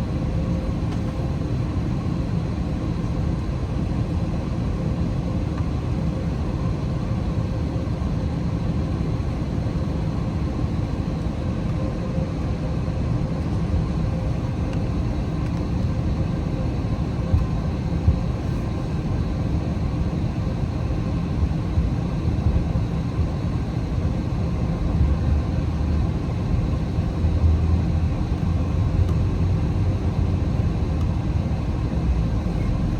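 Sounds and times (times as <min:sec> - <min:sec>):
jet engine cabin rumble: 0:00.0 - 0:32.9.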